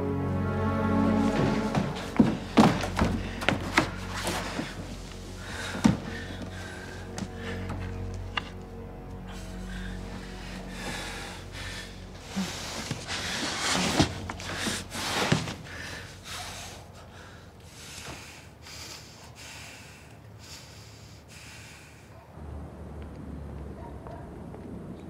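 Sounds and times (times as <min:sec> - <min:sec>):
person breathing heavily: 0:01.5 - 0:08.5, 0:09.2 - 0:22.2.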